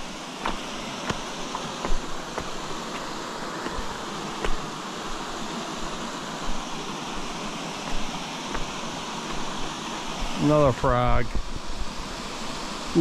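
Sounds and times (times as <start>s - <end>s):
creek waterfall rushing: 0.0s - 13.0s.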